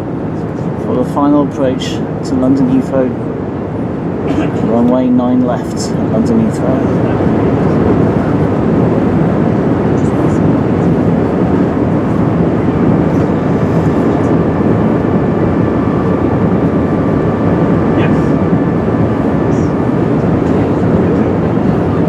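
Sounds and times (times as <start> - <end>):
airflow and engine noise: 0.0 - 22.0
faint steady whine: 0.0 - 22.0.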